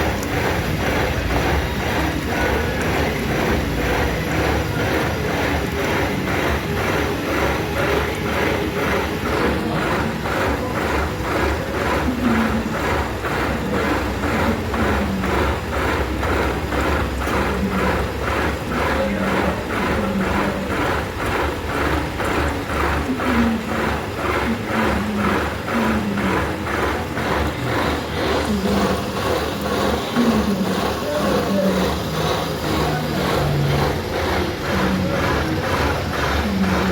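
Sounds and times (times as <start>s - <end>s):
metal lathe running: 0.0s - 36.9s
rhythmic ticking clatter: 0.0s - 36.9s.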